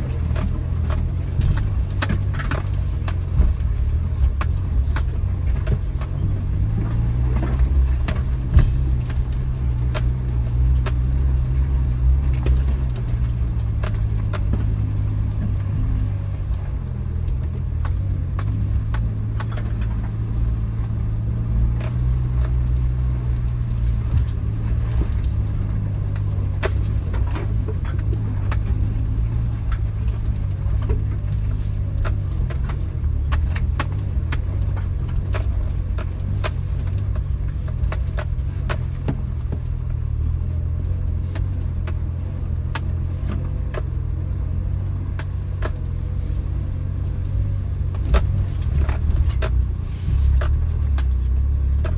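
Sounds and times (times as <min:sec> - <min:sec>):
car engine drone: 0:00.0 - 0:51.9
sharp clicks and rattles: 0:00.0 - 0:51.9.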